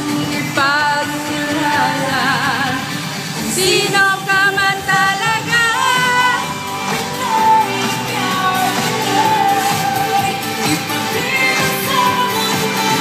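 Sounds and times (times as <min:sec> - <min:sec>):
recorded pop song: 0:00.0 - 0:13.0.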